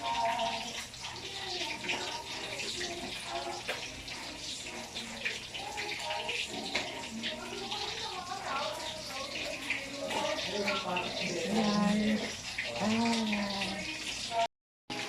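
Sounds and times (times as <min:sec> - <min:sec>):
chicken sizzling in hot oil: 0:00.0 - 0:15.0
faint voices: 0:00.0 - 0:15.0.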